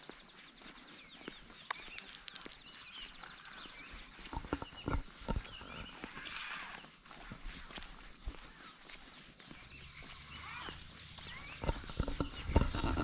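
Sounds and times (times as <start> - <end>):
bird chirps: 0.0 - 13.0
heavy footsteps on path: 0.0 - 13.0
insects trilling: 0.0 - 13.0.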